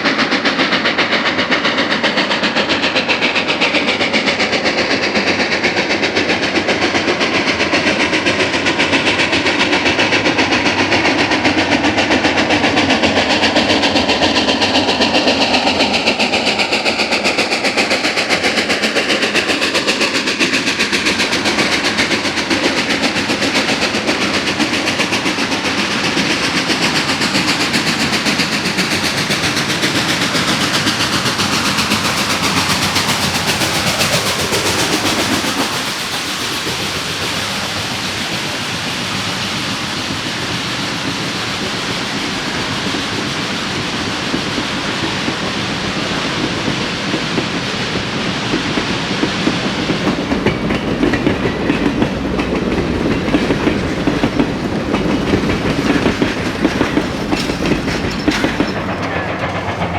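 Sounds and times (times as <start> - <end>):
steam locomotive exhaust chuffing: 0.0 - 59.9
train running noise: 0.0 - 59.9.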